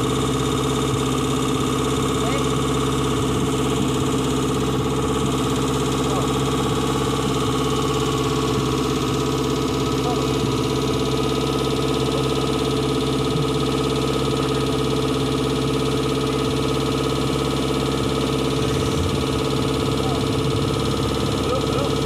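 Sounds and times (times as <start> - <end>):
buggy engine idling: 0.0 - 22.0.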